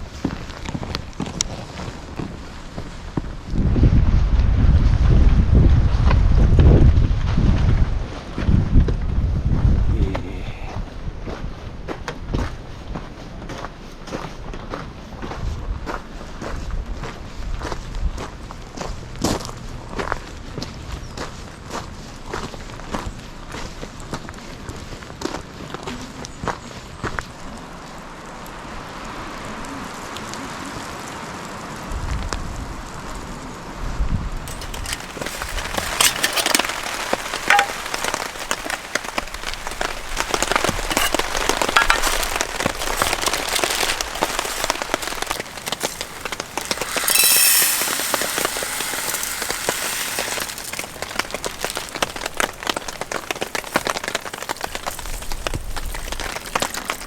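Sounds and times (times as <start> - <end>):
rain pattering on a surface: 0.0 - 9.2, 16.2 - 34.5, 36.6 - 47.2, 48.0 - 57.0.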